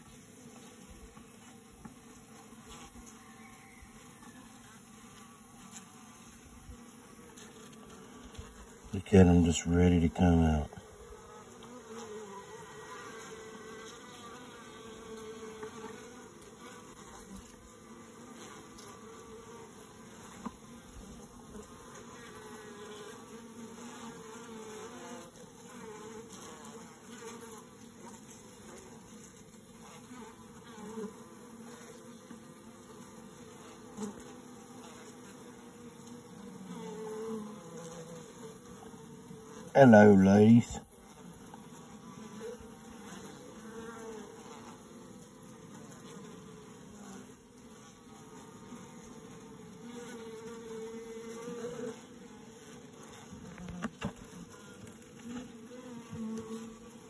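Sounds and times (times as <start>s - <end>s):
honey bees buzzing: 0.0s - 57.0s.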